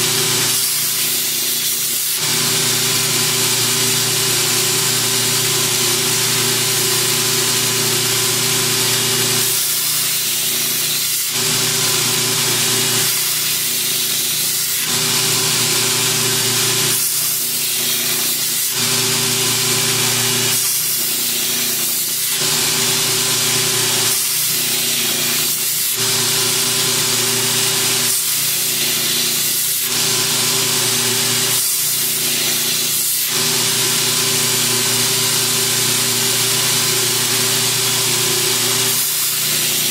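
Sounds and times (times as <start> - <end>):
blade grinding hiss: 0.0 - 35.4, 36.8 - 39.9
belt grinder motor hum: 0.0 - 39.9.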